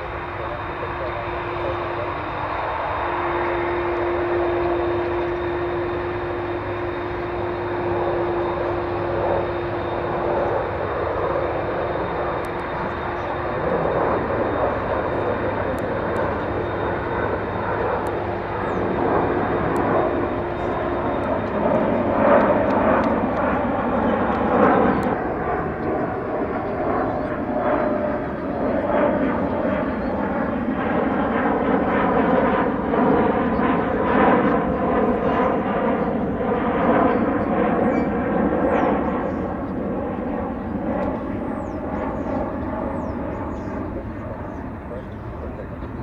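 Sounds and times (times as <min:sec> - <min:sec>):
jet airliner engines roaring: 0:00.0 - 0:46.0.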